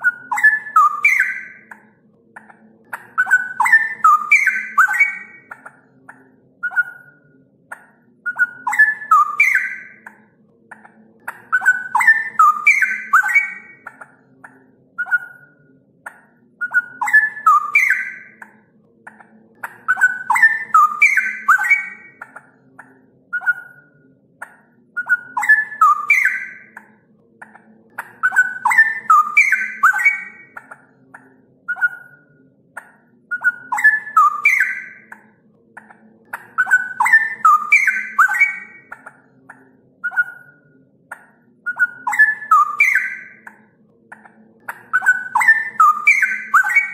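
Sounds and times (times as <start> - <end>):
bird warbling song: 0.0 - 46.9.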